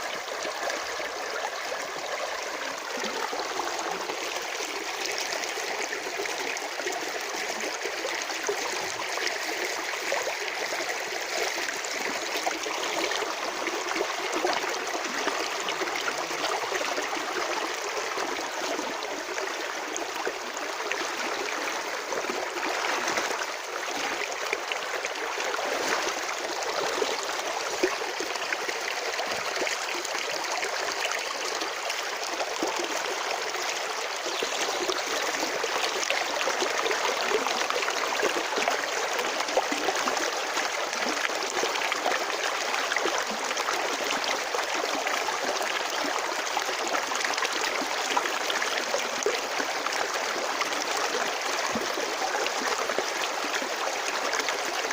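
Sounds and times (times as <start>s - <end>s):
stream trickling over stones: 0.0s - 54.9s.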